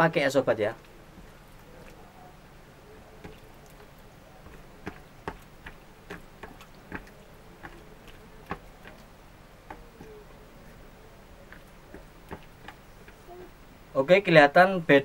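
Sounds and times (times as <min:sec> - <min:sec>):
wet squelches of kneading meat: 0:00.6 - 0:13.3.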